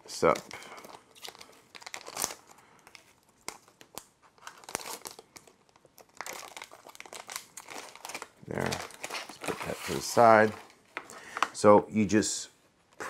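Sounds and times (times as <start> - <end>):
foil wrapper crinkling and tearing: 0.1 - 11.4.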